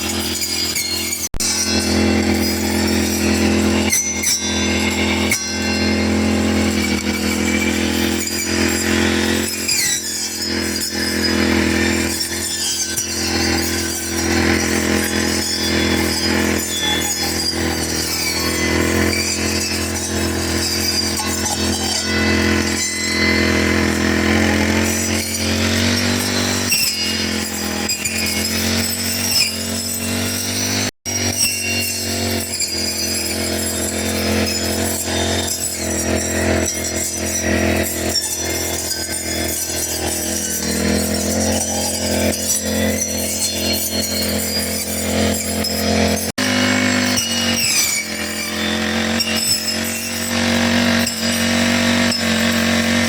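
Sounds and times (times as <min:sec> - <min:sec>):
brush cutter engine cutting grass: 0:00.0 - 0:53.0.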